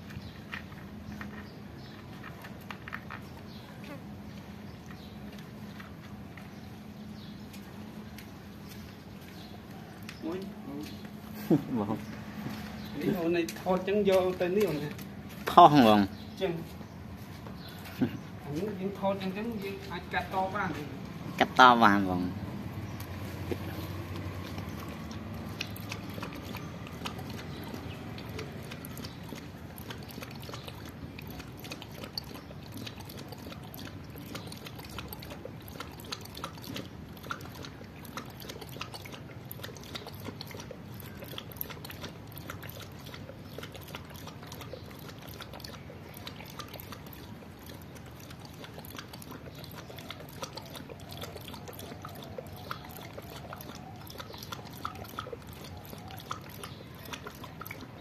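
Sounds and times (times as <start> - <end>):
dog lapping water from bowl: 0.0 - 58.0.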